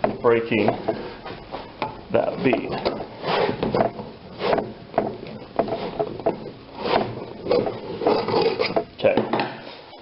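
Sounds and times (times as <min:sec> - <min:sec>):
rubber and metal scraping and creaking: 0:00.0 - 0:09.0.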